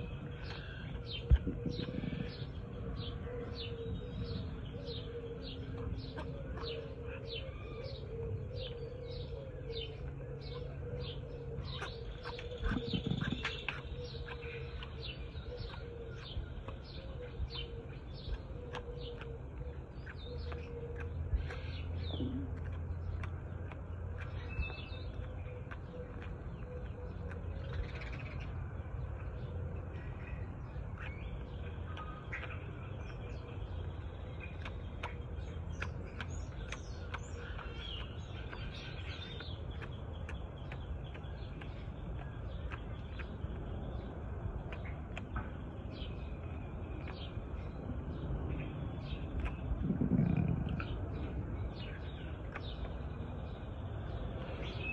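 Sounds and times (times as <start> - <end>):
small birds chirping: 0.0 - 54.9
steady low hum: 0.0 - 54.9.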